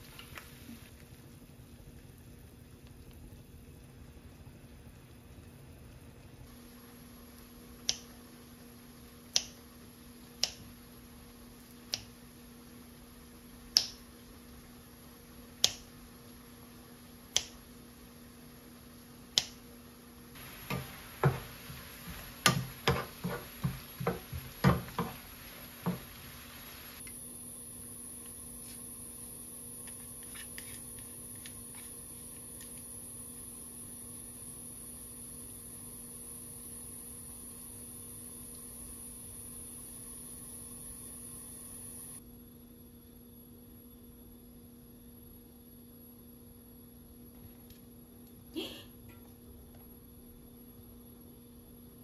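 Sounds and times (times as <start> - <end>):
onions simmering with pops: 0.0 - 42.2.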